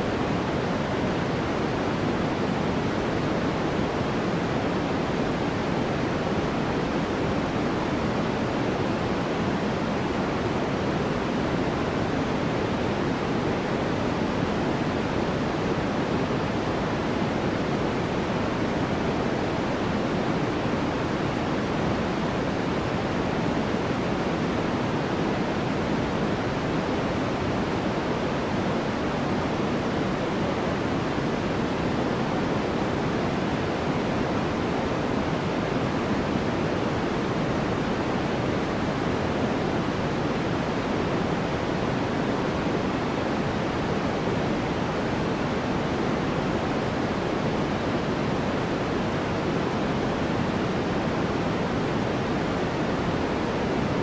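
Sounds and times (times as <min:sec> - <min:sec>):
steady pink noise hiss: 0:00.0 - 0:54.0.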